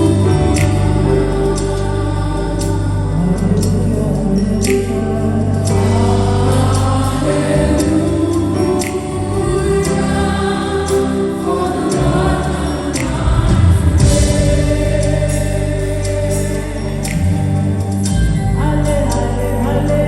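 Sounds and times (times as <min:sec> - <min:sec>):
choir singing held notes: 0:00.0 - 0:20.0
band with steady beat: 0:02.6 - 0:19.3.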